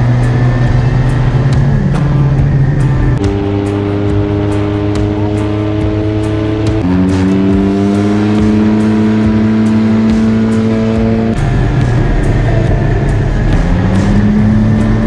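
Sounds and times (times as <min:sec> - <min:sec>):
off-road vehicle engine and exhaust: 0:00.0 - 0:15.0.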